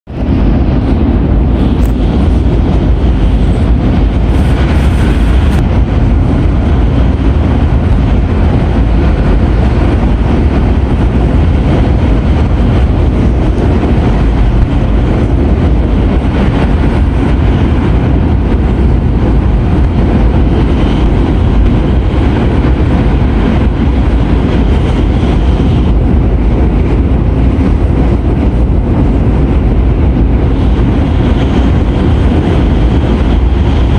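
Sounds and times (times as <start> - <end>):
train rumbling in motion: 0.0 - 33.9.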